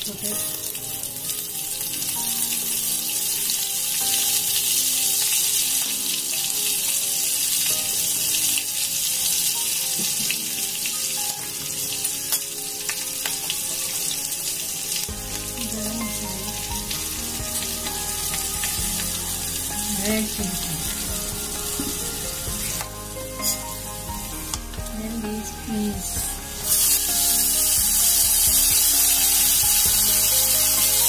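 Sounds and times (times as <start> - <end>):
oil sizzling and crackling: 0.0 - 31.0.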